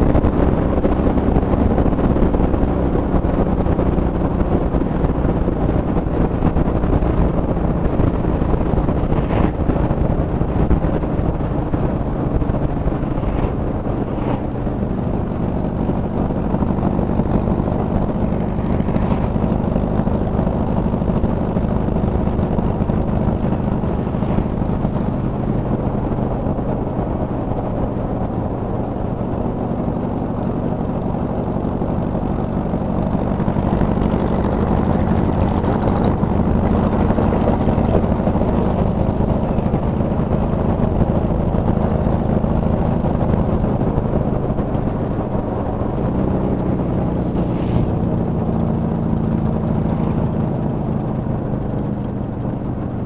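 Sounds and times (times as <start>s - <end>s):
engine running: 0.0s - 53.0s
road and wind rush: 0.0s - 53.0s.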